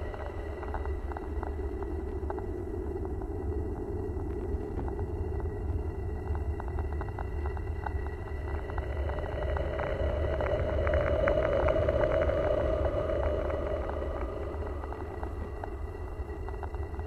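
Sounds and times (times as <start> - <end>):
crackles: 0.0 - 17.0
low rumble: 0.0 - 17.0.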